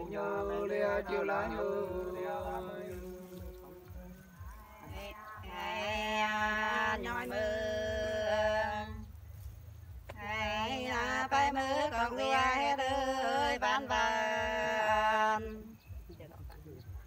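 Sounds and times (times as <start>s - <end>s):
women singing unaccompanied: 0.0s - 16.1s.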